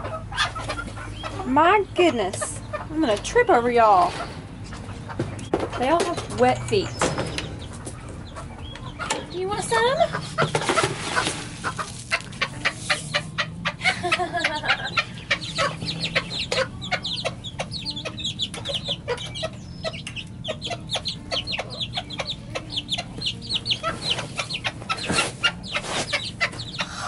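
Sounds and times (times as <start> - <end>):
chickens clucking and chirping: 0.0 - 27.0.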